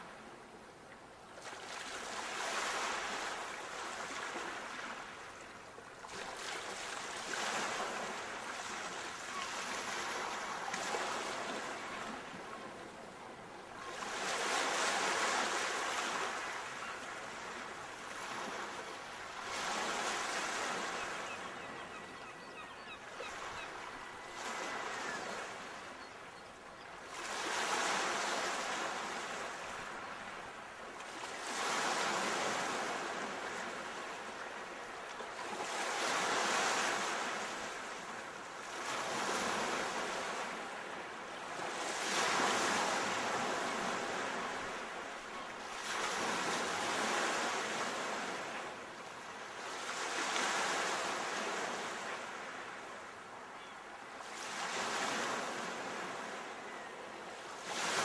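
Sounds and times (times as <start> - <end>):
sea waves breaking on shore: 1.4 - 53.4, 54.2 - 58.0.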